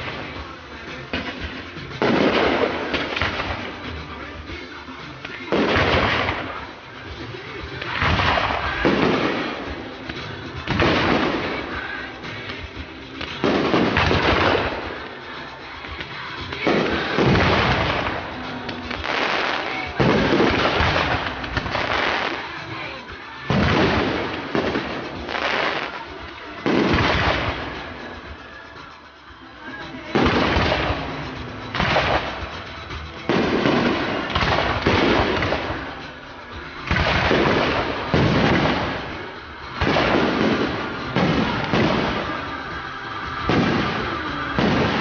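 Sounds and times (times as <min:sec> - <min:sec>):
fireworks bursting: 0:00.0 - 0:45.0.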